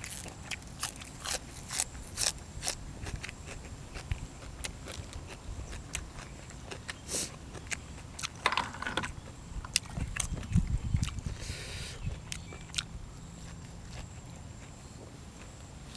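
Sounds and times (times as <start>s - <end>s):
crunchy chewing: 0.0s - 15.9s.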